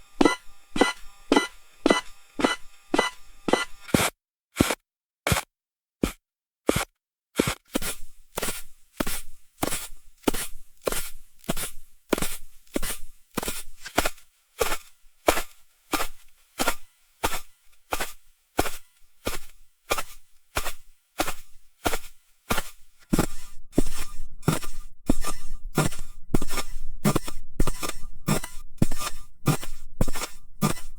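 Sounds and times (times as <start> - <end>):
footsteps crunching in snow: 0.2 - 4.8, 7.4 - 30.9.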